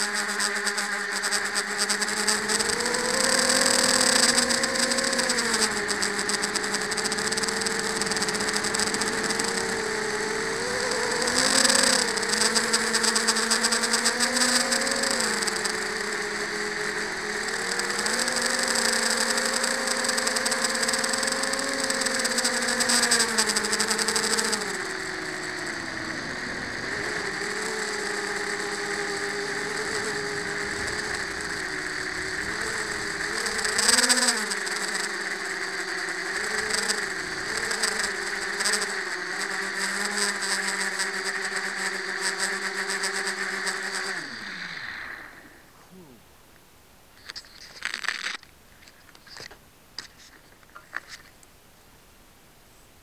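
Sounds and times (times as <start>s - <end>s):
quadcopter motors buzzing: 0.0s - 46.3s, 47.2s - 51.4s.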